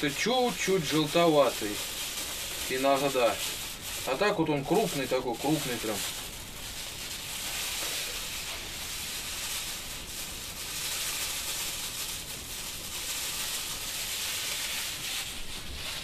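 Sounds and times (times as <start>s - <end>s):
sugar pouring into plastic barrel: 0.0s - 16.0s.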